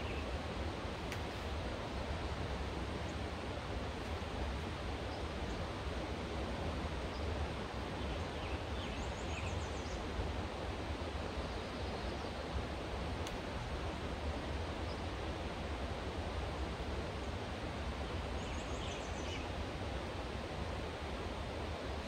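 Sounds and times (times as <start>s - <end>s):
rushing outdoor ambience: 0.0s - 22.0s.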